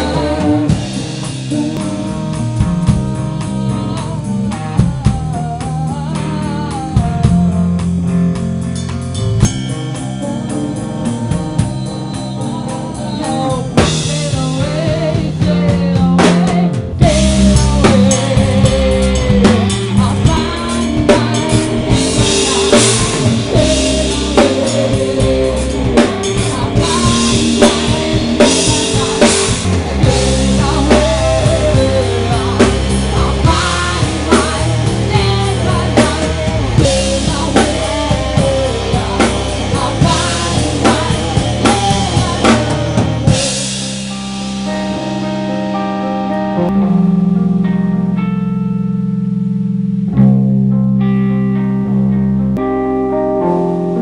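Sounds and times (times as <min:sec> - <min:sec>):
woman singing: 0:00.0 - 0:08.2, 0:10.0 - 0:46.4
drum kit: 0:00.0 - 0:48.2
electric guitar: 0:00.0 - 0:54.0.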